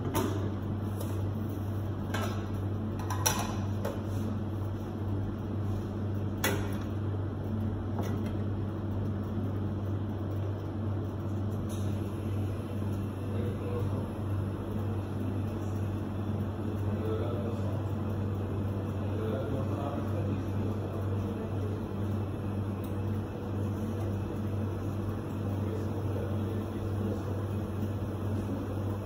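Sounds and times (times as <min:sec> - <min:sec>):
kitchen equipment hum: 0:00.0 - 0:29.0.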